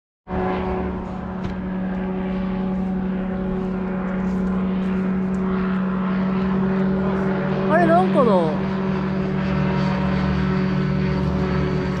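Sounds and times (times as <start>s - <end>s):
steady motor drone: 0.3s - 12.0s.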